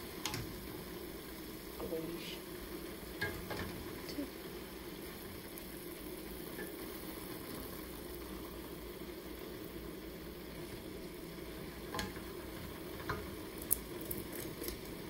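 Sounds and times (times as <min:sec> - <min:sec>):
cabbage sizzling in skillet: 0:00.0 - 0:15.0.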